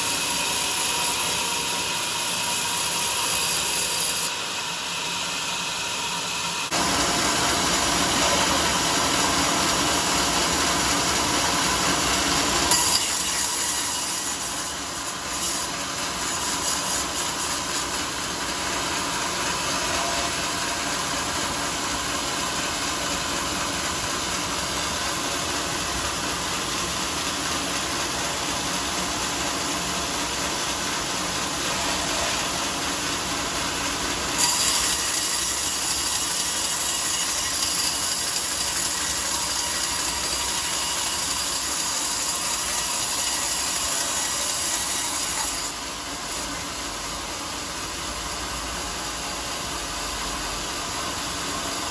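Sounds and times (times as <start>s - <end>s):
saw cutting through log: 0.0s - 48.7s
machine running: 0.0s - 51.9s.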